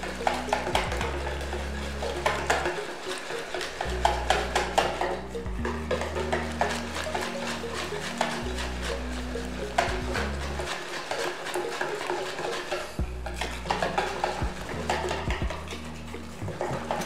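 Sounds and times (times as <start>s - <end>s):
whisk clicking and scraping bowl: 0.0s - 17.0s.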